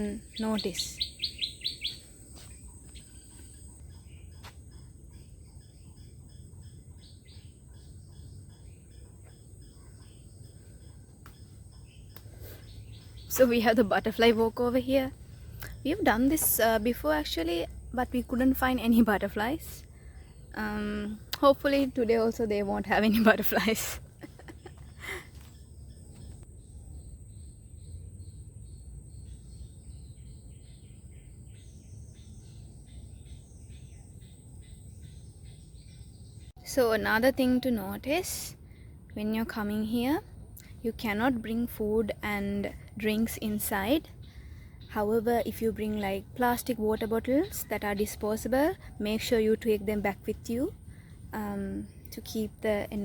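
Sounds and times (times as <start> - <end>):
insect chorus: 0.0 - 53.0
small birds chirping: 0.0 - 53.0.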